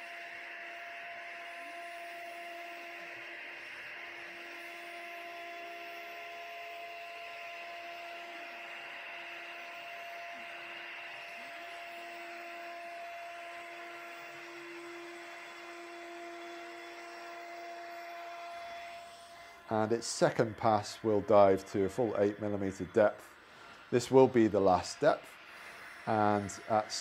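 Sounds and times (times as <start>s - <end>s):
cnc router whining: 0.0s - 27.0s
dust extractor running: 0.0s - 27.0s.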